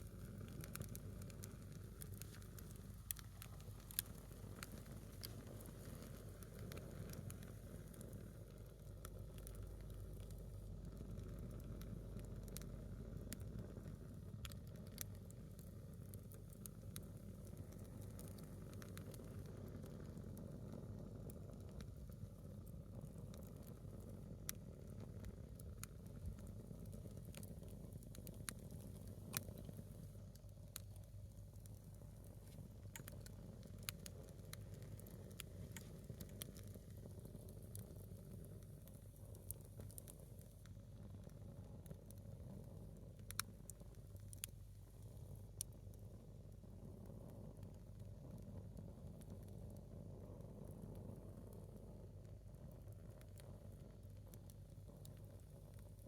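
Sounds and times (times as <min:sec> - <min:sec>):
fire low rumble: 0:00.0 - 0:56.0
wood fire crackling and popping: 0:00.0 - 0:56.0.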